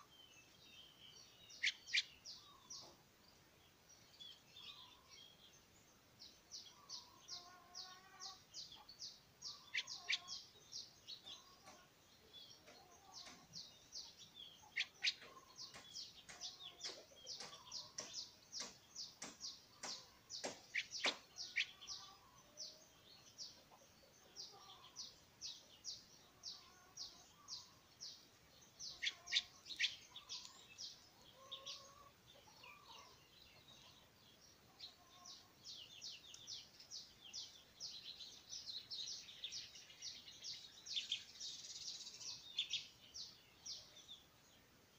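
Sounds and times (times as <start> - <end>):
bird chirping and warbling: 0.0 - 3.0, 6.6 - 23.6, 24.2 - 44.2.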